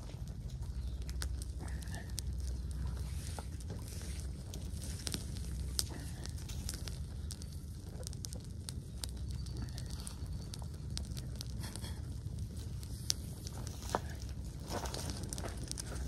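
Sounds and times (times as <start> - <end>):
dry grass fire crackling: 0.0 - 16.0
low rumble: 0.0 - 16.0.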